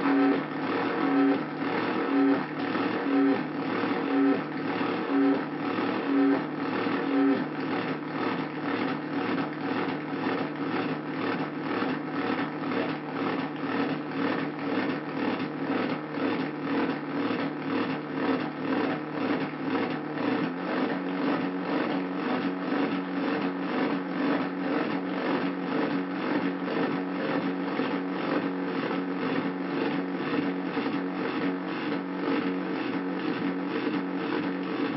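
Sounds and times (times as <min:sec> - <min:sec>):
pulsing buzzing synthesizer drone: 0:00.0 - 0:34.9.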